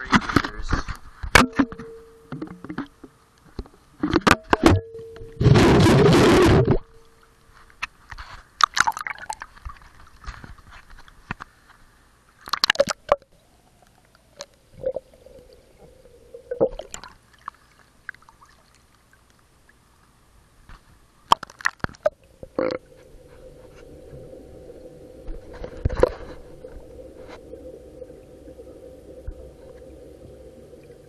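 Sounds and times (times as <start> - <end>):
faint steady hum: 0.0 - 31.0
underwater clicks and bubbling: 0.0 - 31.0.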